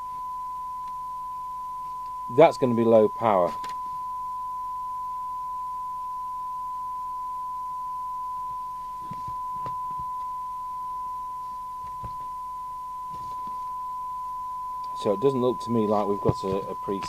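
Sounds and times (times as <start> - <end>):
steady test tone: 0.0 - 17.0.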